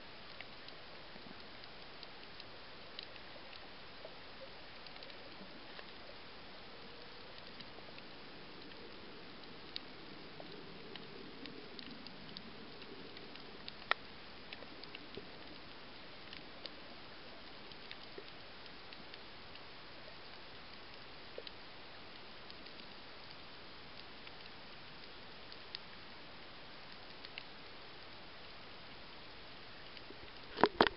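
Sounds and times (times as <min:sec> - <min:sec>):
steady underwater hiss: 0:00.0 - 0:30.9
sharp clicks and crackles: 0:00.2 - 0:26.1, 0:26.7 - 0:27.8, 0:29.8 - 0:30.9.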